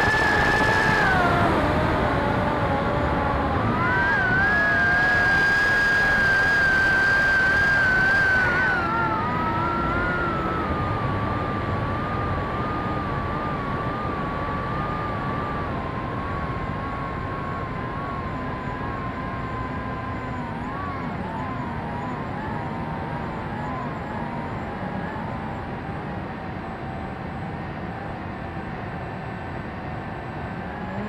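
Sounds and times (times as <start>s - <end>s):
electric motor and propeller whining: 0.0s - 31.0s
wind rushing over microphone: 0.0s - 31.0s.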